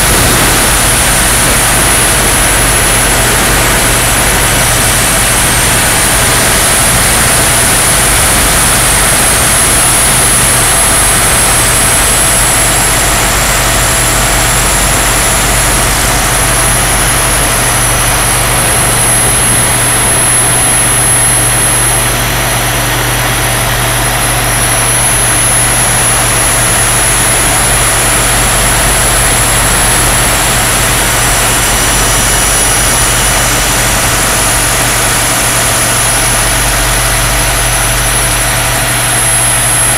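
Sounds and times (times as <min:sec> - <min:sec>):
model helicopter engine whine: 0:00.0 - 0:39.9
rotor noise: 0:00.0 - 0:39.9
wind noise: 0:00.0 - 0:39.9.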